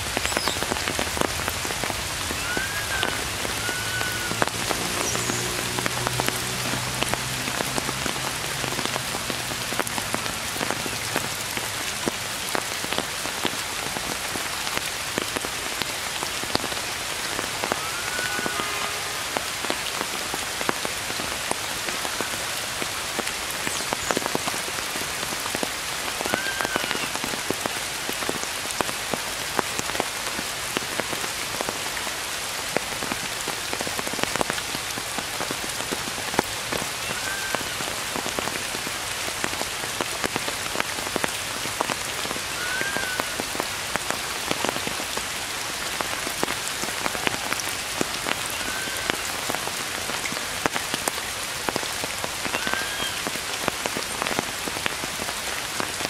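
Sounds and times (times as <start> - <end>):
rain on tree foliage: 0.0 - 56.0.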